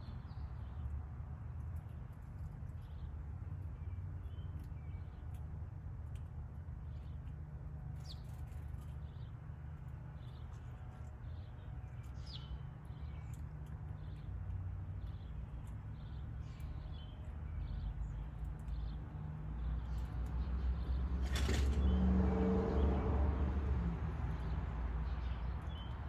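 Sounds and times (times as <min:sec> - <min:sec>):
small birds chirping: 0:00.0 - 0:22.1, 0:24.2 - 0:26.0.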